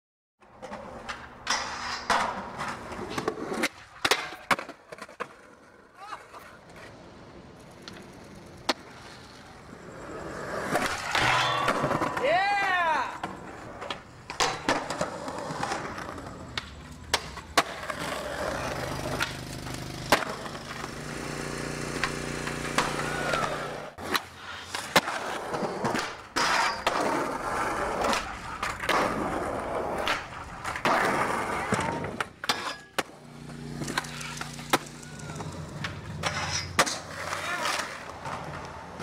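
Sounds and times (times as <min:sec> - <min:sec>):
skateboard popping and landing: 0:00.4 - 0:39.0
skateboard rolling on concrete: 0:00.4 - 0:39.0.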